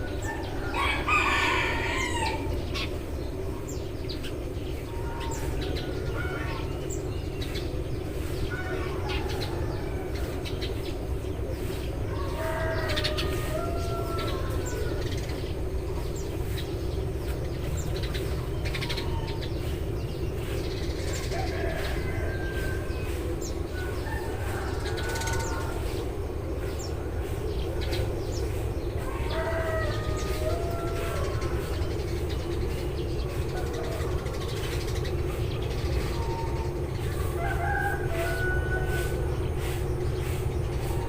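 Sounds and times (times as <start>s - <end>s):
low background rumble: 0.0s - 41.0s
low bird calls: 0.0s - 41.0s
sparrows chirping: 0.0s - 41.0s.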